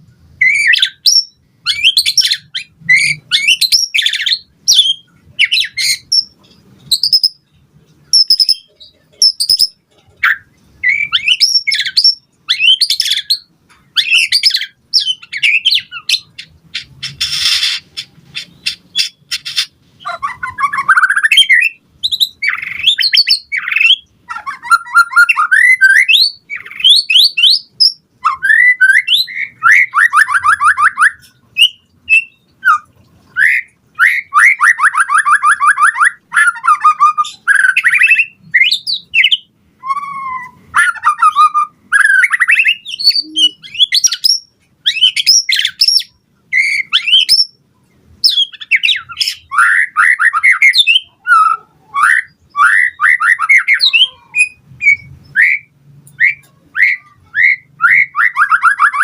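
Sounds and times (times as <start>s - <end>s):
bird singing varied song: 0.0s - 59.0s.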